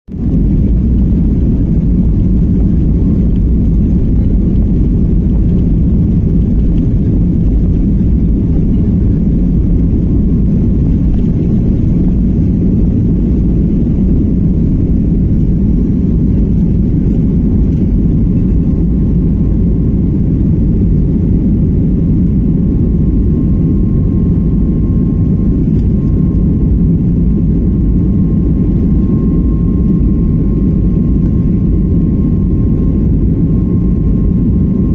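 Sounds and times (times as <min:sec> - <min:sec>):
aircraft engines rumbling: 0:00.1 - 0:34.9
faint steady whine: 0:00.1 - 0:34.9.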